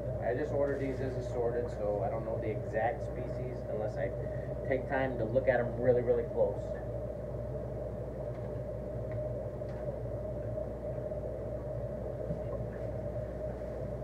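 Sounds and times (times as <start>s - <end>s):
aquarium equipment humming: 0.0s - 14.0s.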